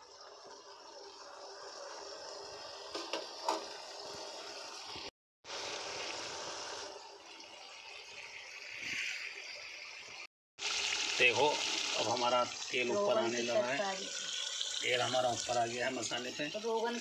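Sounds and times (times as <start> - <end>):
masala sizzling in oil: 0.0 - 7.2, 8.2 - 17.0.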